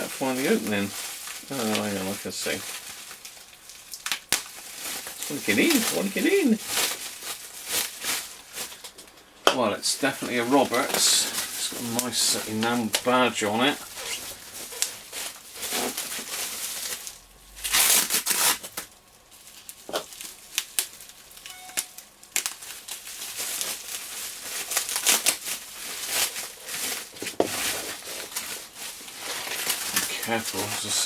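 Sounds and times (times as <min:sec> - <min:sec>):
packing wrap crinkling and tearing: 0:00.0 - 0:31.0.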